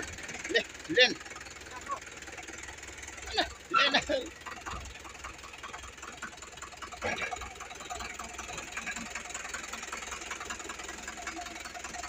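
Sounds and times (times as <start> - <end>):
loud engine knock: 0.0 - 12.0
tractor engine idling: 0.0 - 12.0.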